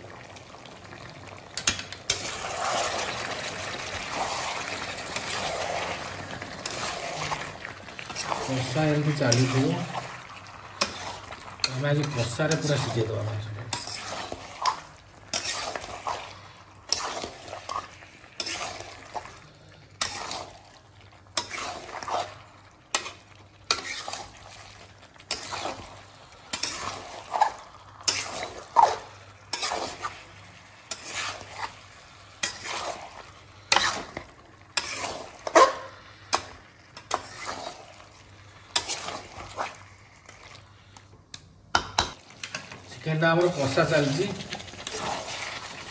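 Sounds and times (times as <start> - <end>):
frying sizzle: 0.0 - 45.9
spatula scraping metal wok: 1.6 - 19.4, 20.0 - 20.6, 21.4 - 40.6, 42.4 - 45.9.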